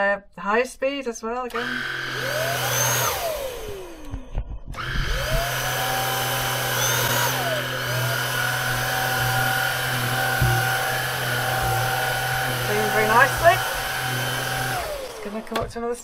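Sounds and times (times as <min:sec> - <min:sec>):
stick vacuum motor whining: 0:01.5 - 0:15.8.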